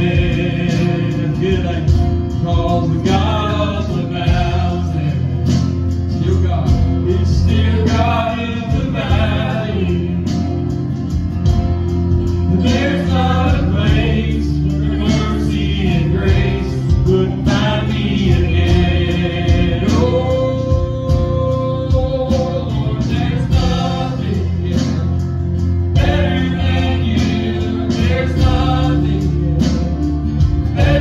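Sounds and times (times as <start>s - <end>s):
voices singing together: 0.0s - 10.4s, 12.5s - 31.0s
acoustic guitar: 0.0s - 31.0s
keyboard: 0.0s - 31.0s
low bass notes: 0.0s - 31.0s.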